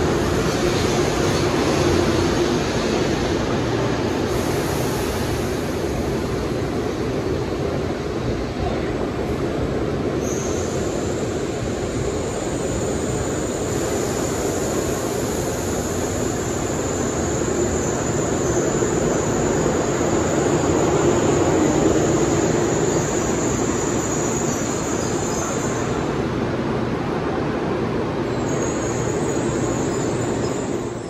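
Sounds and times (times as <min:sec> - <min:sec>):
high-speed train rushing: 0:00.0 - 0:31.0.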